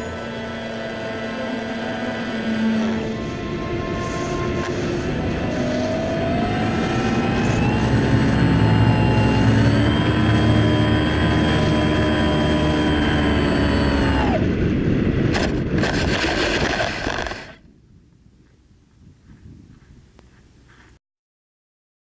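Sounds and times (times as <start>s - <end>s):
electric motor and propeller whine: 0.0s - 17.7s
wind rush: 0.0s - 20.7s.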